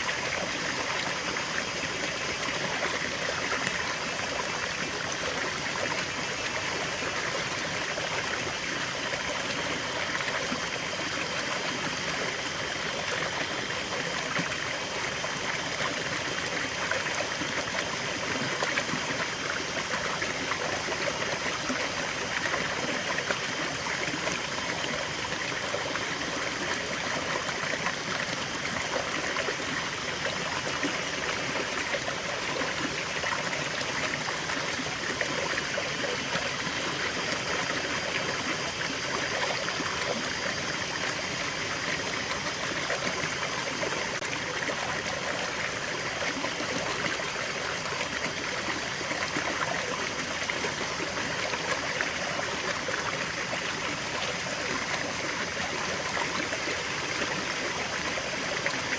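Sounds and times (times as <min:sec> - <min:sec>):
stream trickling over stones: 0:00.0 - 0:58.9.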